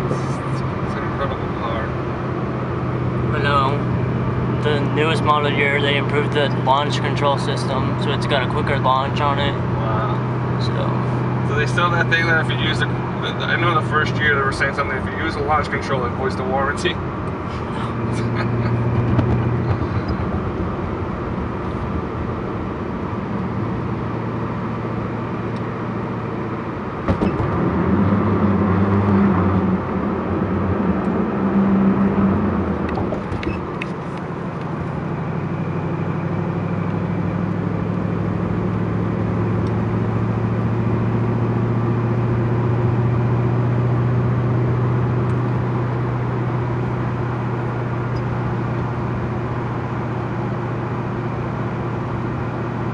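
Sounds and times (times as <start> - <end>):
car engine cruising: 0.0 - 52.9.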